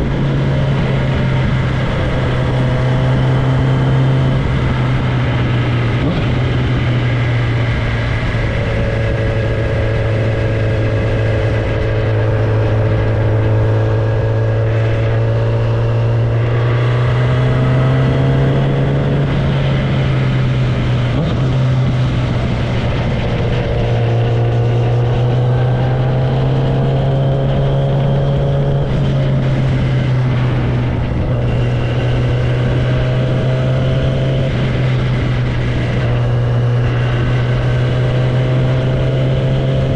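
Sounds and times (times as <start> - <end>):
loud motorcycle engine cruising: 0.0 - 39.9.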